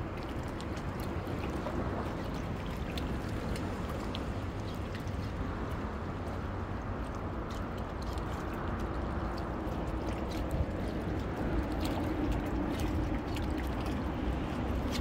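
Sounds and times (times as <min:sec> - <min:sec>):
seawater washing around rocks: 0:00.0 - 0:15.0
small water splashes: 0:00.0 - 0:15.0.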